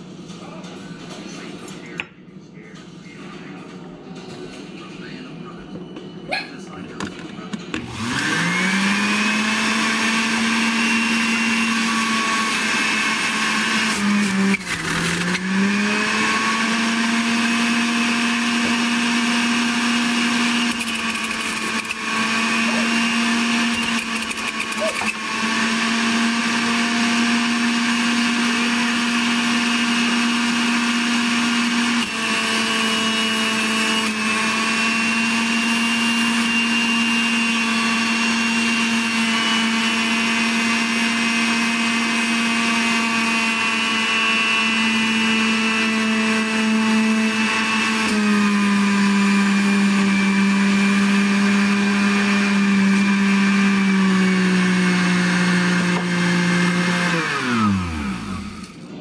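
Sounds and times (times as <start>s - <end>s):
electric juicer motor whining: 7.7s - 59.0s.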